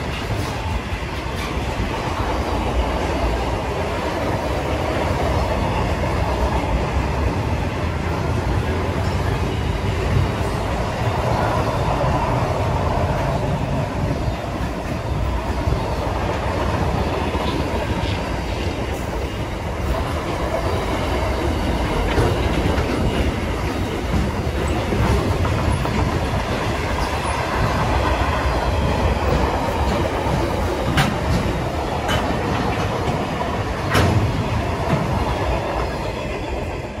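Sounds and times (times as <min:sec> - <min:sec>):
freight train wheels rumbling on rails: 0:00.0 - 0:37.0
wheels clacking over rail joints: 0:00.0 - 0:37.0.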